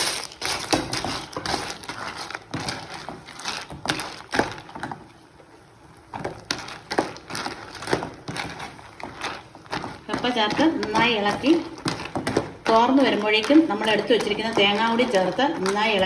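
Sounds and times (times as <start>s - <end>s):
chips crunching while stirred: 0.0s - 5.0s, 6.0s - 16.0s.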